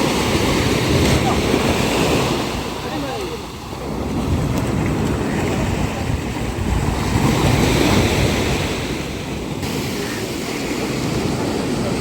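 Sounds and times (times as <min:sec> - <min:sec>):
surf washing onto beach: 0:00.0 - 0:12.0
wave breaking: 0:00.0 - 0:12.0
wind buffeting microphone: 0:00.0 - 0:12.0.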